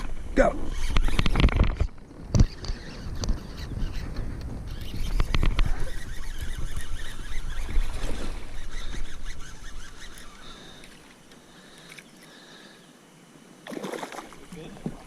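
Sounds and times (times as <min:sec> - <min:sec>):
open-air background: 0:00.0 - 0:15.0.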